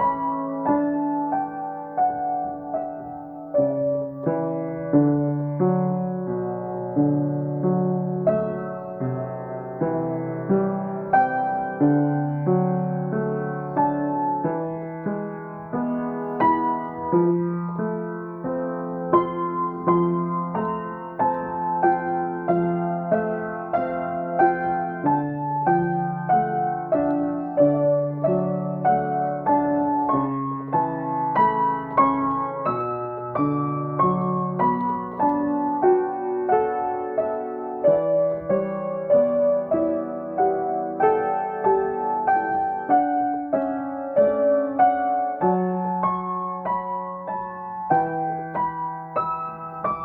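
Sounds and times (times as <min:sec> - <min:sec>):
acoustic piano improvisation: 0:00.0 - 0:50.0.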